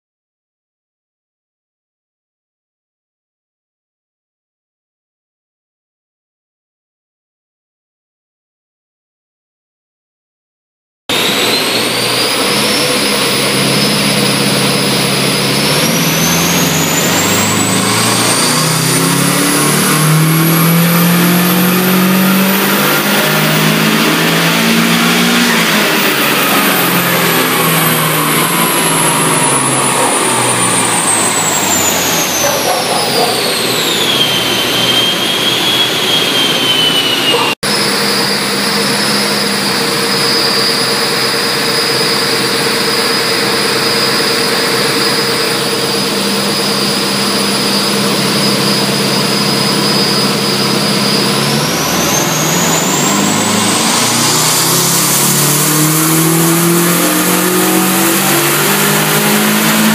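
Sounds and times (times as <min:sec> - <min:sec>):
car engine revving: 0:11.1 - 0:59.9
high turbo whine: 0:11.1 - 0:59.9.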